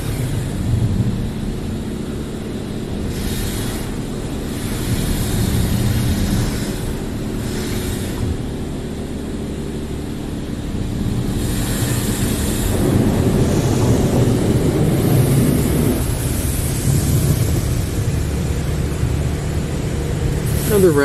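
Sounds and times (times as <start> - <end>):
car wash machinery hum: 0.0 - 21.0
water spray hissing on car: 0.0 - 21.0.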